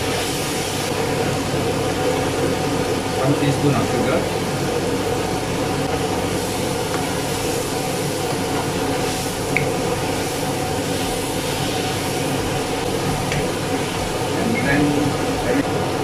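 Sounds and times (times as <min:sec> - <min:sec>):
cabbage sizzling in a wok: 0:00.0 - 0:16.0.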